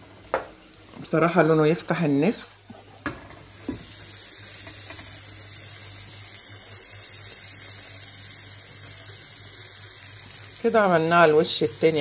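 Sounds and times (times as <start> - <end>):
flatbread sizzling on grill pan: 0.0 - 12.0.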